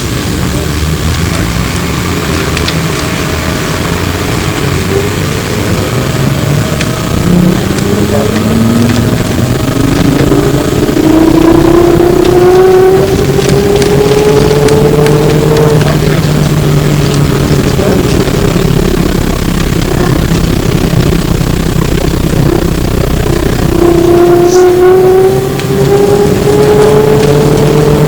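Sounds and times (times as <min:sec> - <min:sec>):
electric motor whine: 0:00.0 - 0:28.0
low road rumble: 0:00.0 - 0:28.0.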